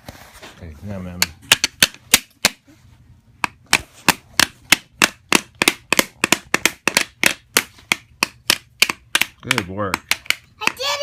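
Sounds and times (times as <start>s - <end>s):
hammers tapping nails: 1.2s - 2.6s, 3.4s - 11.0s.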